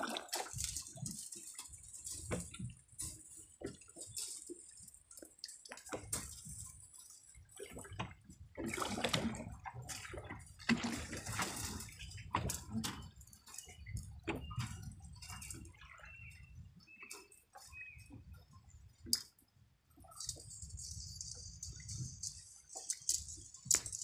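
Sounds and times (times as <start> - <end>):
water splashing against boat hull: 0.0 - 19.4.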